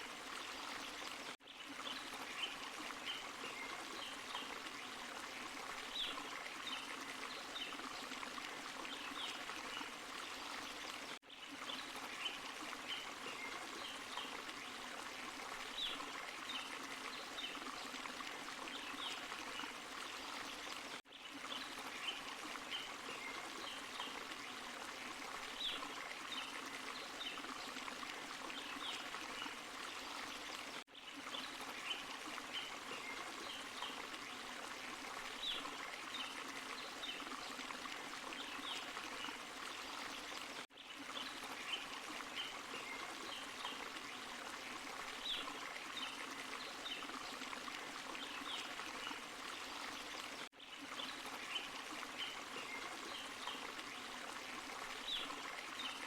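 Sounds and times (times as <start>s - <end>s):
waterfall and stream running: 0.0s - 56.0s.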